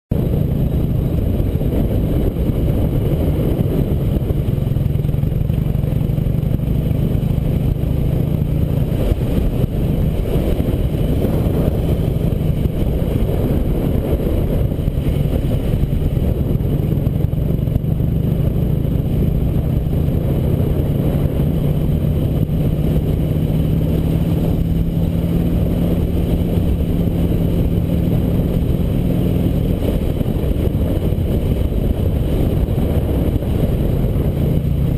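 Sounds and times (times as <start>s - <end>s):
motorcycle engine cruising: 0.1s - 34.9s.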